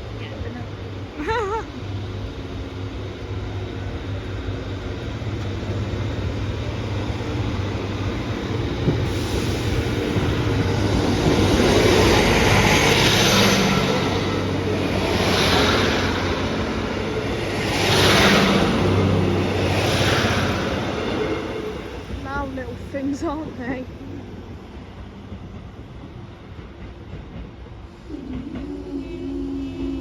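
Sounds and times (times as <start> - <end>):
train engine hum: 0.0 - 30.0
train wheels rumbling: 0.0 - 30.0.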